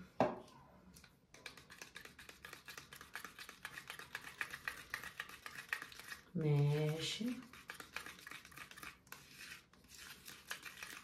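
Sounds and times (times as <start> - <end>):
spatula scraping paint cup: 1.3 - 11.0.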